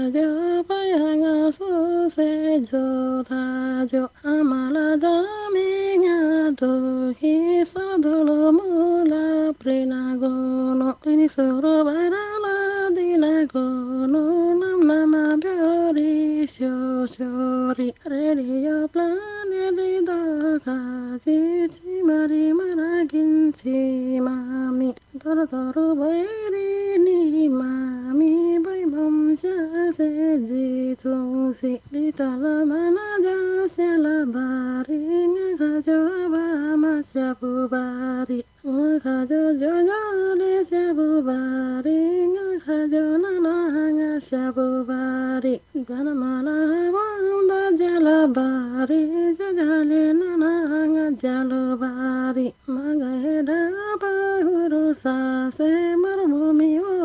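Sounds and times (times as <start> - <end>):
woman singing slow melody: 0.0 - 57.0.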